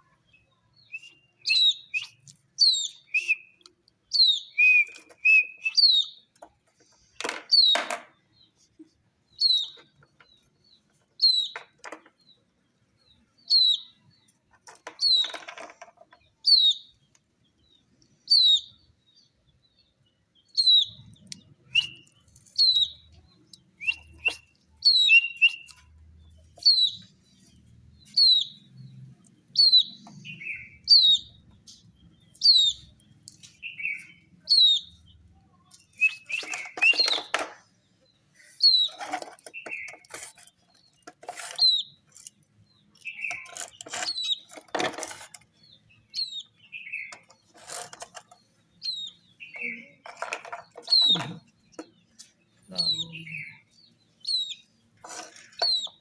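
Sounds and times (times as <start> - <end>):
baby chick peeping: 0.2 - 6.8, 9.3 - 12.4, 13.4 - 17.3, 20.4 - 56.0.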